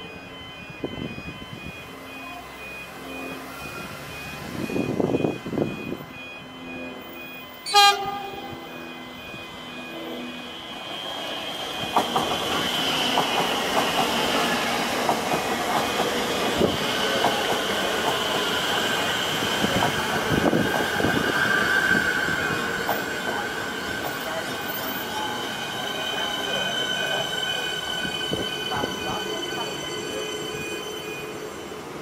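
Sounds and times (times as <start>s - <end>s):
high steady train whine: 0.0s - 32.0s
train running noise: 0.0s - 32.0s.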